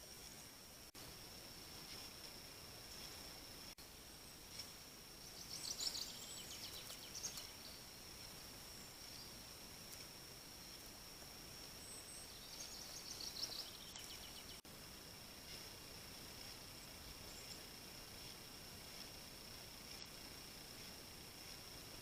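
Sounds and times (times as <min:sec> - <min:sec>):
faint high whine: 0:00.0 - 0:22.0
songbird singing: 0:00.0 - 0:22.0.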